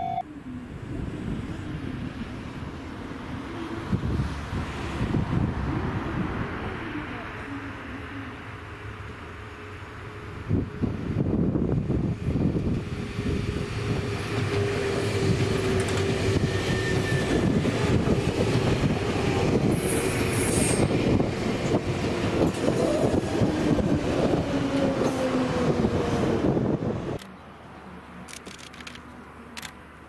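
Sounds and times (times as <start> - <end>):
wheels rumbling on rail: 0.3 - 27.4.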